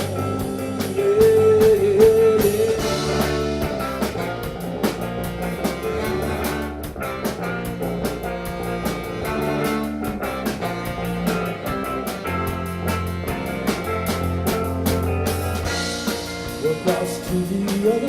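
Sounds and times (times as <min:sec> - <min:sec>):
drum kit steady beat: 0:00.0 - 0:18.0
guitar playing: 0:00.0 - 0:18.0.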